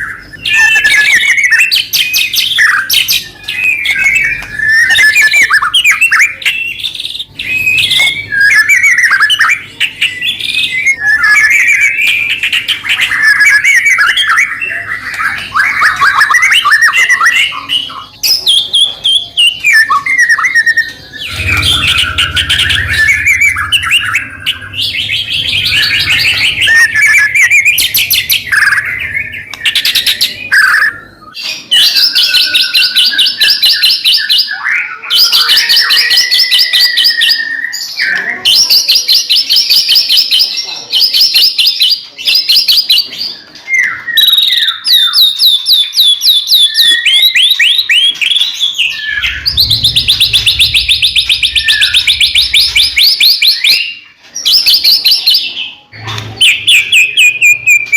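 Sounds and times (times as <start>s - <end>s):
songbird singing trills and whistles: 0.0s - 57.9s.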